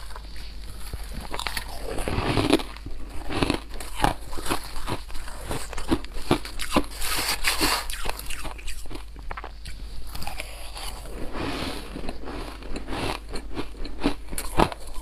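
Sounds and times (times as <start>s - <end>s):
person chewing crunchy ice: 0.0s - 15.0s.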